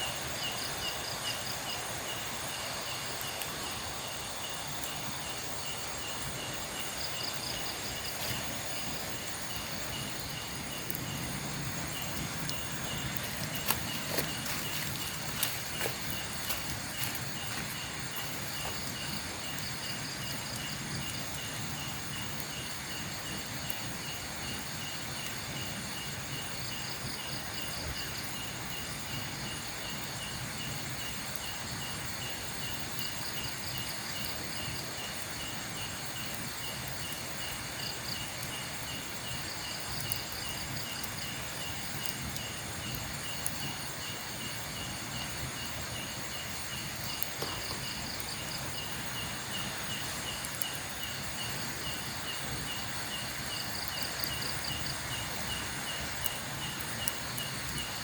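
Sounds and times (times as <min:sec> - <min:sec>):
higher insect calling: 0:00.0 - 0:58.0
steady hiss: 0:00.0 - 0:58.0
insect fast pulsing trill: 0:00.1 - 0:58.0.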